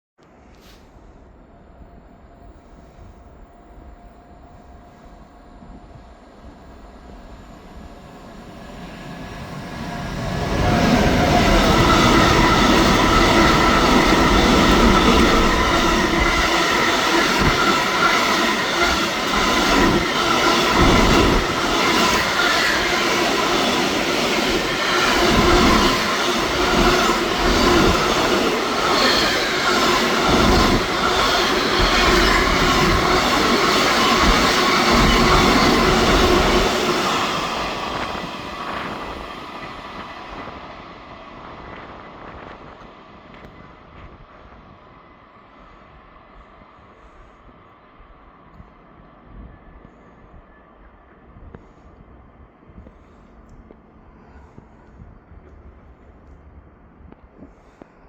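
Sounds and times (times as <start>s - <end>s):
freight train rolling and rattling: 0.3s - 58.0s.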